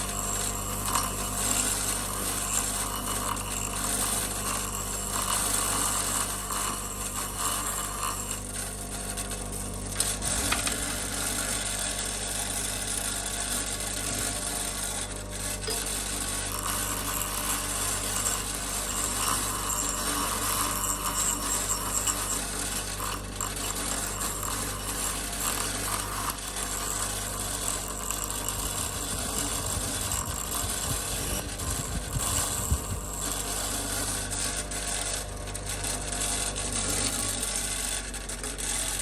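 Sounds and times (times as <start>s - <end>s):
bench grinder motor hum: 0.0s - 39.0s.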